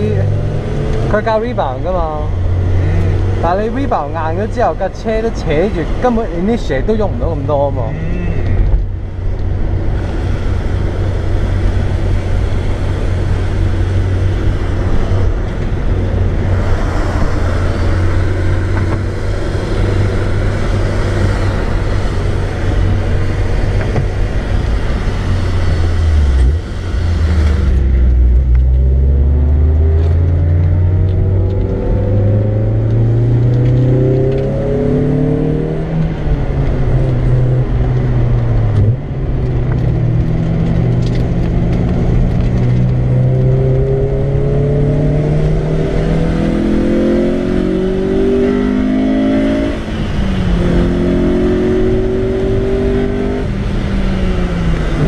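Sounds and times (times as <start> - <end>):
car engine accelerating: 0.0 - 55.0
wind and road noise hiss: 8.3 - 55.0.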